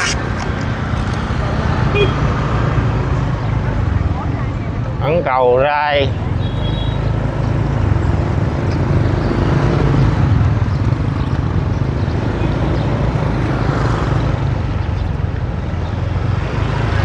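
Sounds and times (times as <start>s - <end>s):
market background noise: 0.0s - 17.0s
motorbike engines running: 0.0s - 17.0s.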